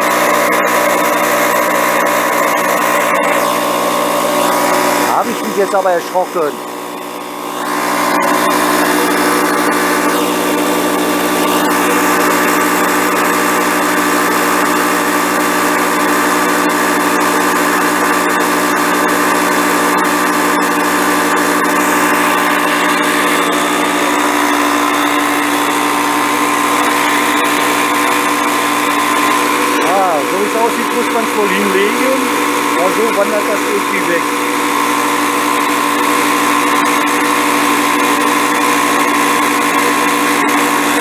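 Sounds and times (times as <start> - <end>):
air compressor buzzing hum: 0.0 - 41.0.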